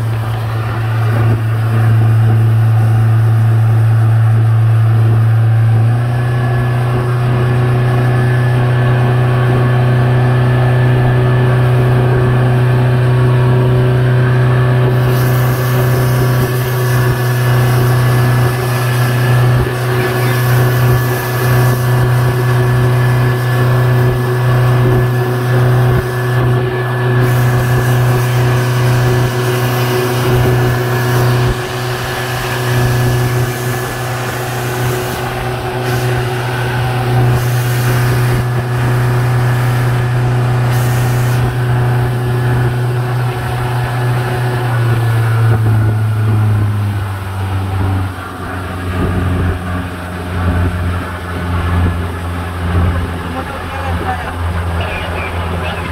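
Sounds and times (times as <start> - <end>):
speedboat engine drone: 0.0 - 55.9
wake and wind rushing: 6.1 - 55.9.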